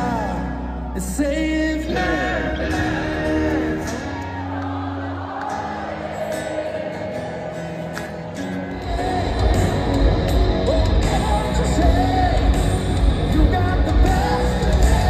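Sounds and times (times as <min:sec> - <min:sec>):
distant live rock band: 0:00.0 - 0:15.0.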